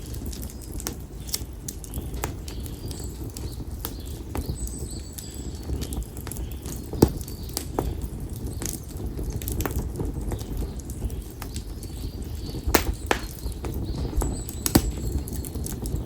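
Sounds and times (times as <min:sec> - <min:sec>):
campfire crackling: 0:00.0 - 0:16.0
sharp fire pops: 0:00.0 - 0:16.0.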